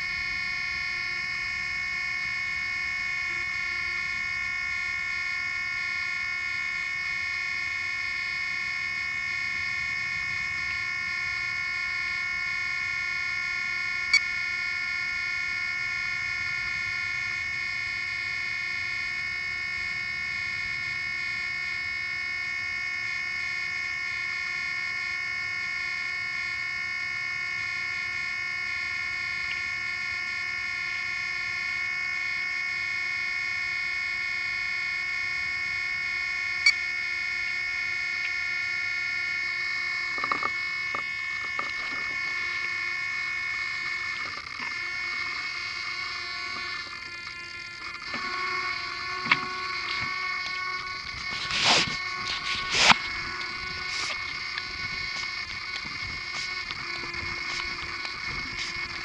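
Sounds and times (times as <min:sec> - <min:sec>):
electronic whine: 0:00.0 - 0:59.0.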